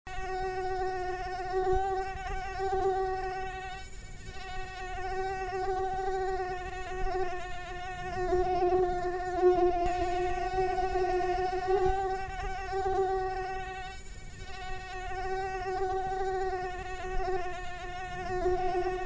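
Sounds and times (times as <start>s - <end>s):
mosquito buzzing: 0.1s - 19.0s.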